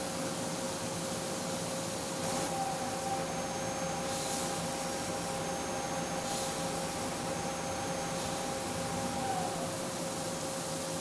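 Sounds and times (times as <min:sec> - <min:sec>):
hiss of coolant spray: 0:00.0 - 0:11.0
machine whir with held tones: 0:01.6 - 0:11.0.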